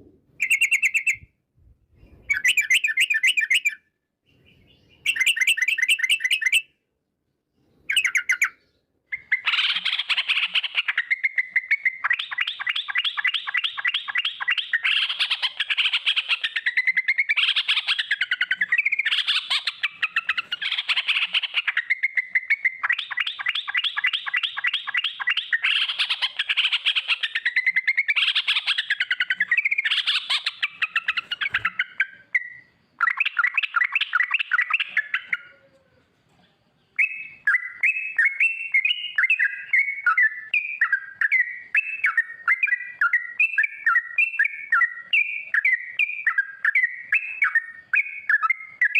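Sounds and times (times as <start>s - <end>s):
bird chattering song: 0.0s - 1.4s, 2.0s - 6.8s, 7.4s - 48.9s.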